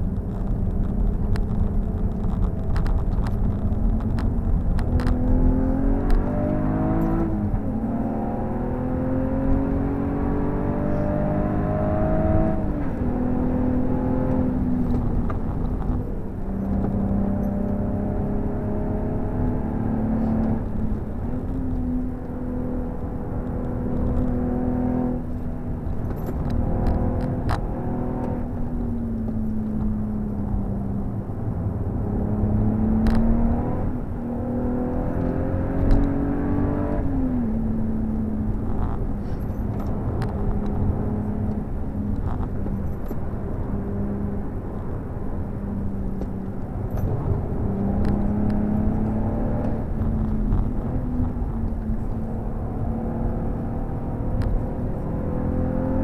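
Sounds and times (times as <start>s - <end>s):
tyre and road noise: 0.0s - 56.0s
car engine revving: 0.2s - 56.0s.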